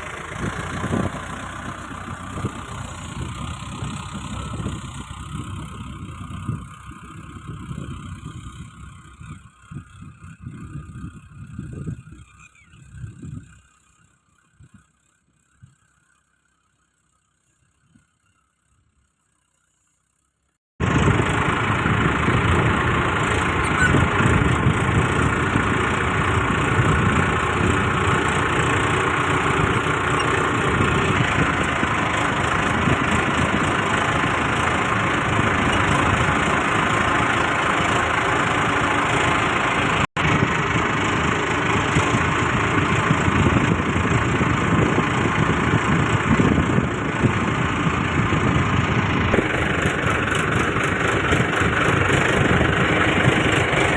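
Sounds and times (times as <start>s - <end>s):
tractor engine running under load: 0.0s - 53.9s.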